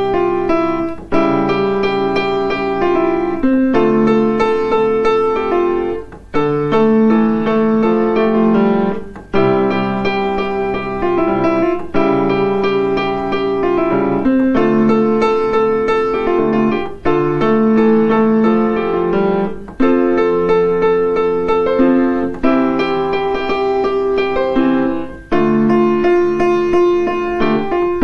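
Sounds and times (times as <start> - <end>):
gentle piano tune: 0.0 - 28.0.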